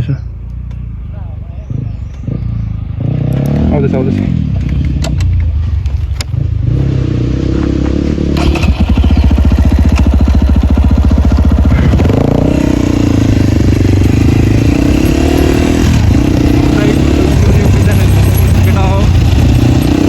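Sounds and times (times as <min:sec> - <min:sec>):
dirt bike engine approaching: 0:01.2 - 0:20.0.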